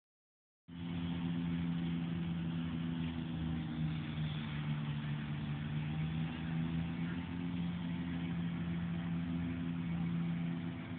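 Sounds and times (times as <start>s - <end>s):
engine hum: 0.7s - 10.9s.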